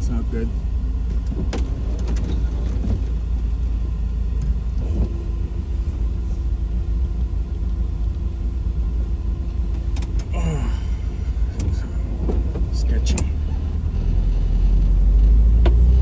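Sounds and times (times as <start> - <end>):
steady hum: 0.0 - 15.6
van engine running: 0.0 - 16.0.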